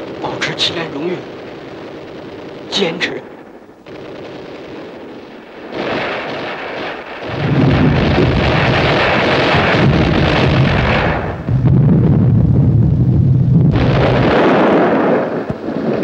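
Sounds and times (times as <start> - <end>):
gunfire: 0.0 - 12.3, 13.6 - 16.0
artillery explosions: 0.0 - 16.0.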